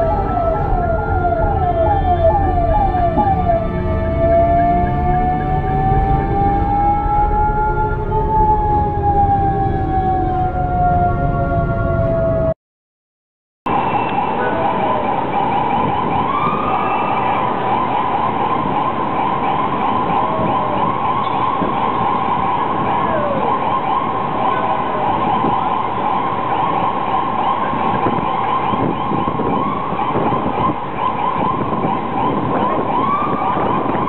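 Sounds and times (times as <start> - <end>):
congested traffic noise: 0.0 - 12.5, 13.7 - 34.0
ambulance siren: 0.0 - 12.6, 13.7 - 34.0.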